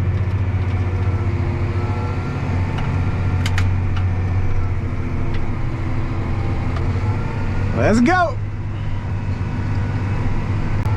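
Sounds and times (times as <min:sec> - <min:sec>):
tractor diesel engine running: 0:00.0 - 0:10.9.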